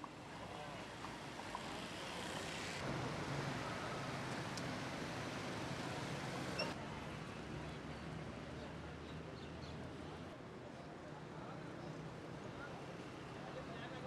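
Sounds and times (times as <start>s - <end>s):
outdoor street ambience: 0.0s - 14.0s.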